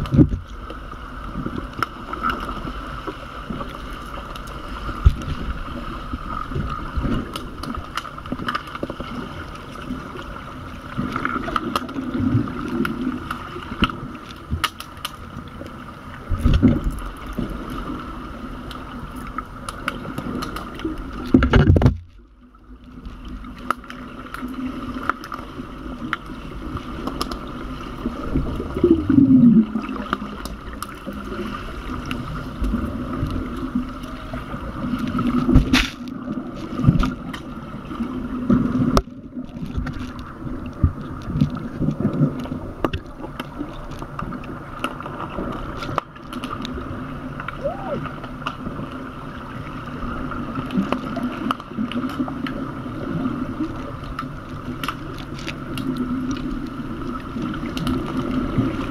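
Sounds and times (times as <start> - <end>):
steady underwater hum: 0.0 - 58.9
underwater bubbling: 0.0 - 58.9.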